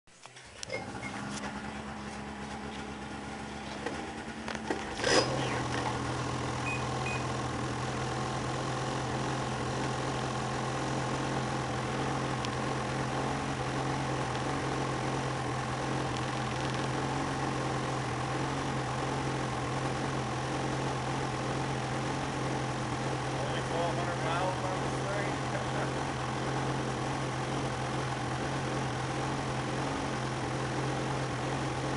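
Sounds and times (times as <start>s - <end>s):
snowmobile engine idling: 0.4s - 31.9s.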